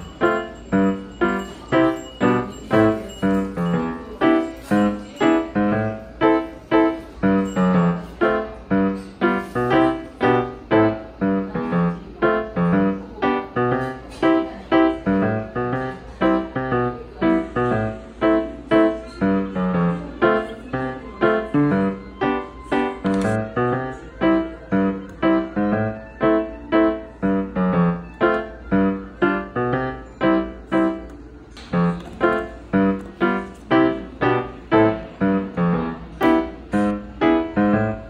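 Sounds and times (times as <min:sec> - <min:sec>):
piano tune: 0:00.0 - 0:38.0.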